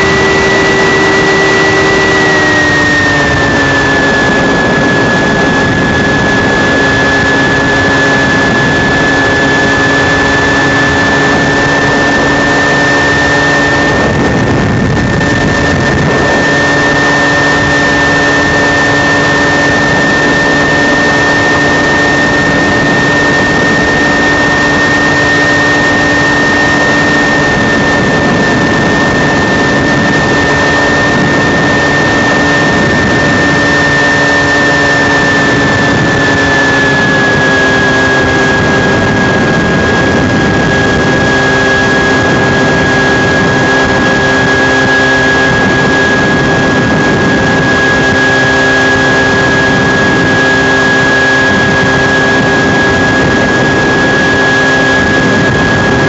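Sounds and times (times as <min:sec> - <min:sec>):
aircraft engine drone in cockpit: 0:00.0 - 0:56.0
high steady whine: 0:00.0 - 0:56.0
rush of noise: 0:00.0 - 0:56.0.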